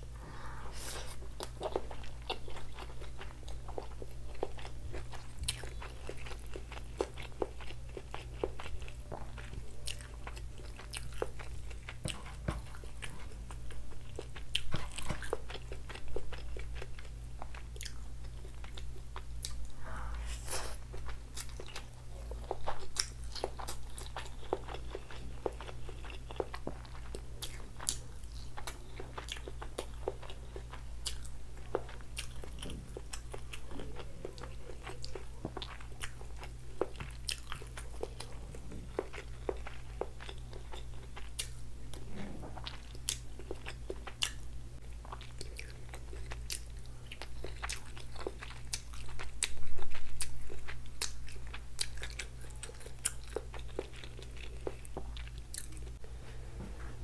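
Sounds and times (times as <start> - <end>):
wet chewing with crunches: 0.8 - 56.0.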